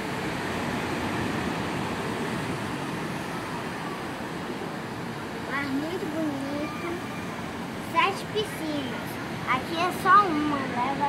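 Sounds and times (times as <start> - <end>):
distant sea surf: 0.0 - 11.0
wind: 0.0 - 11.0.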